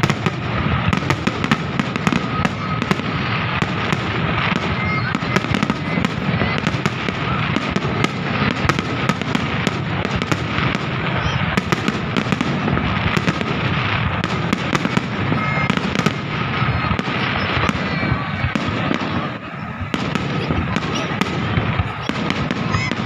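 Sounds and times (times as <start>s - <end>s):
fireworks bangs and crackling: 0.0s - 23.0s
fireworks rumble of bursts: 0.0s - 23.0s.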